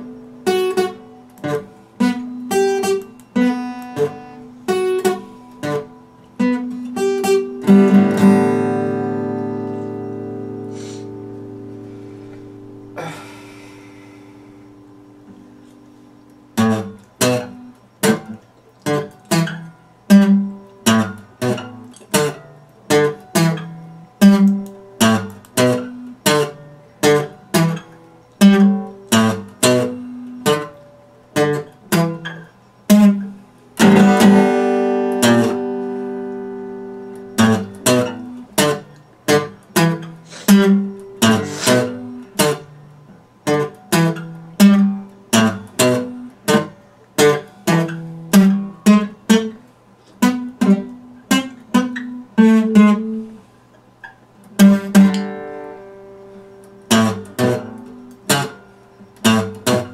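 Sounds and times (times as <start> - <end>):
acoustic guitar picking: 0.0 - 59.9.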